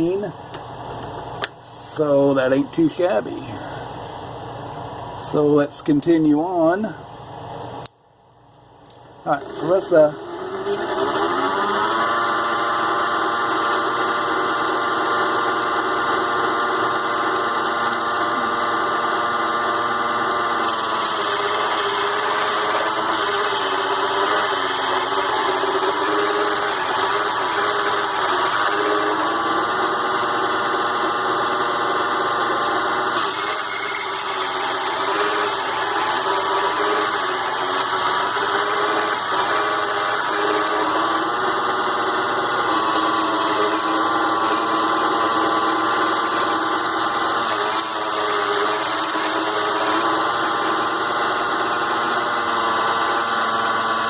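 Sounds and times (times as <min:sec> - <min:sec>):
lathe motor whine: 0:09.3 - 0:54.0.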